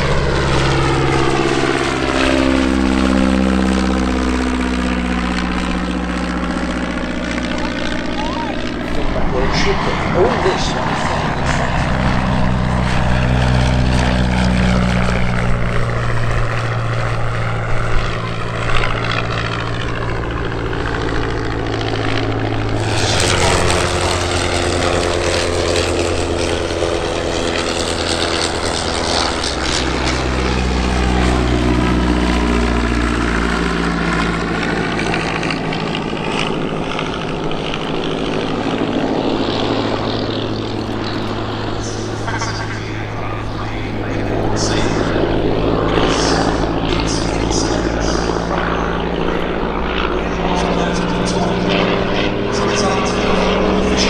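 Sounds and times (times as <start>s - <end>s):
biplane piston engine flying past: 0.0s - 54.0s.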